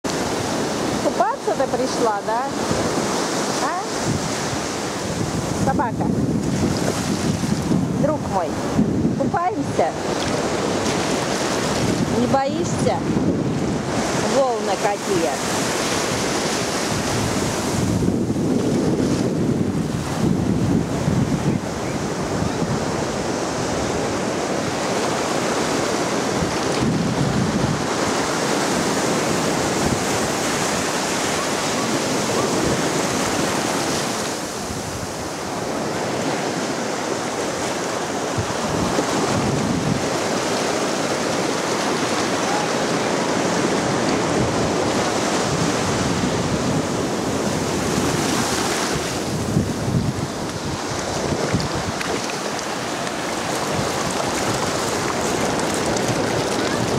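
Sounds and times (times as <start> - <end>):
surf washing over sand: 0.0 - 56.9
wind buffeting microphone: 0.0 - 56.9.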